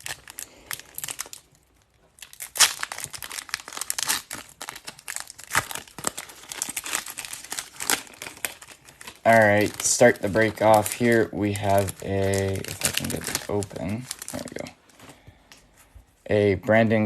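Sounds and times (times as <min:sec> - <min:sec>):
foil wrappers crinkling: 0:00.0 - 0:15.3.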